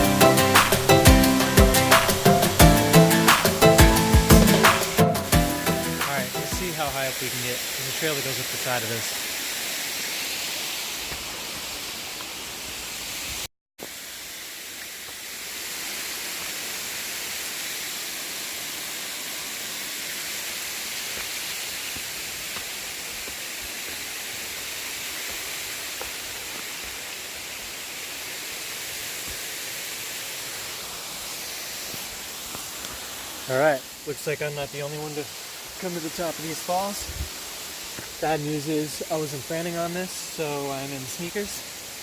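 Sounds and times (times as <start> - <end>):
waterfall rushing water: 0.0 - 42.0.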